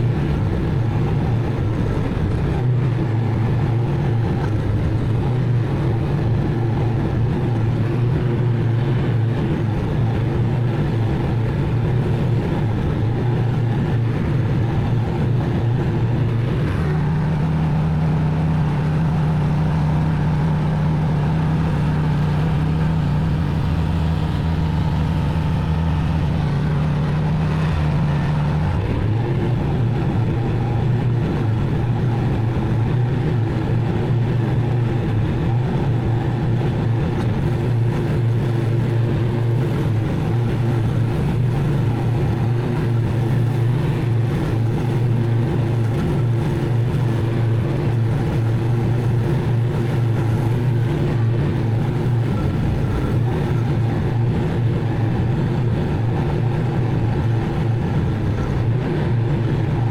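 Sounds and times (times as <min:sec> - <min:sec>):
mower engine running: 0:00.0 - 0:59.9.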